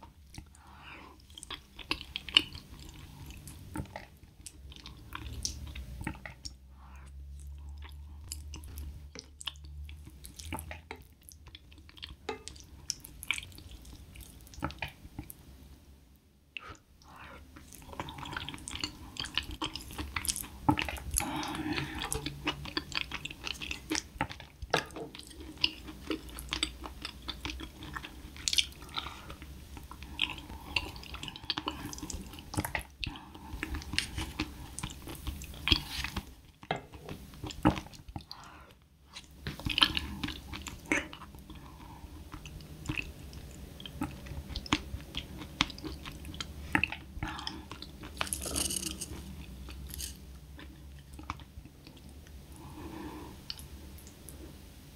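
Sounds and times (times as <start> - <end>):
wet chewing and mouth sounds: 0.0 - 15.5, 16.5 - 54.4.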